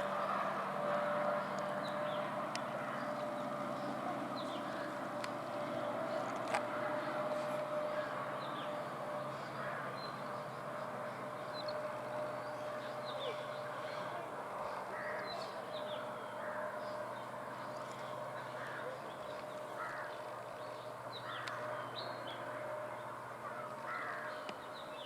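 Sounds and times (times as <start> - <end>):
diesel locomotive humming: 0.0 - 25.0
birds chirping: 0.1 - 6.4, 7.0 - 25.0.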